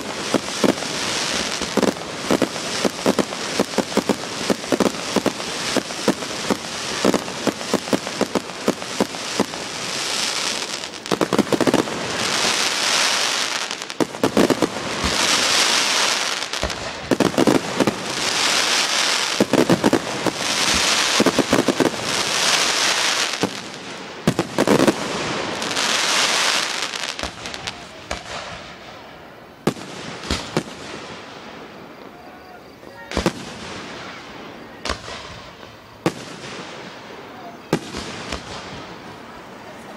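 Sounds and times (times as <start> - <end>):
fireworks bursting with sharp bangs: 0.0 - 39.9
fireworks hiss: 0.0 - 39.9.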